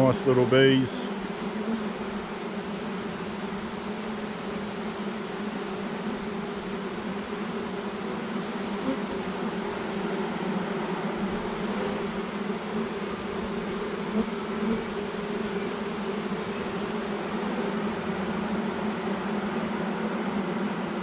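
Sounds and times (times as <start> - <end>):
swarm of bees buzzing: 0.0 - 21.0.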